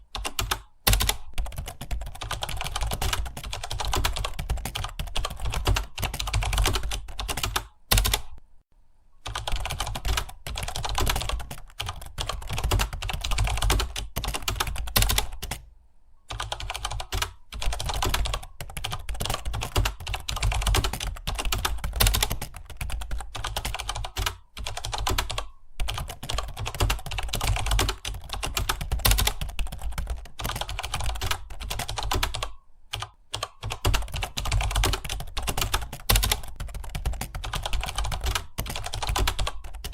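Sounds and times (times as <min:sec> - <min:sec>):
computer keyboard typing: 0:00.0 - 0:08.4, 0:09.2 - 0:15.7, 0:16.3 - 0:39.9.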